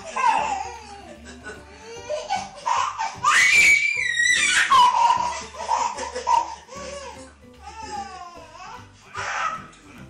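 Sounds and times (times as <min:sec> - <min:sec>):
toddler laughing and squealing: 0:00.0 - 0:01.1, 0:01.8 - 0:09.6.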